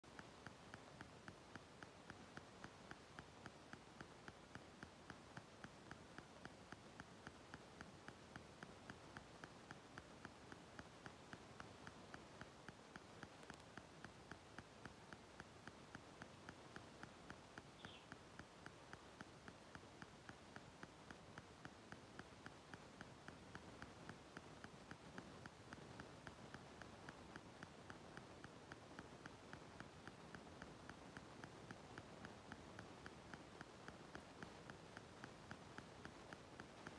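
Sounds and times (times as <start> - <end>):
soft regular ticking: 0.0 - 36.9.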